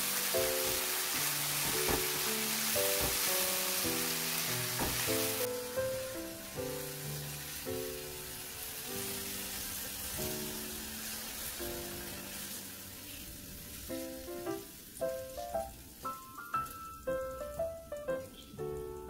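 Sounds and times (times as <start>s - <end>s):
background music: 0.0s - 19.0s
meat sizzling: 0.0s - 19.0s.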